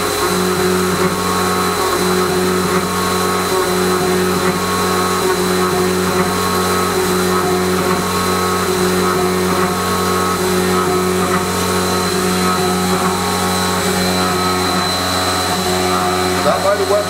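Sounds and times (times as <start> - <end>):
coolant spraying: 0.0 - 17.0
milling machine humming and whining: 0.0 - 17.0.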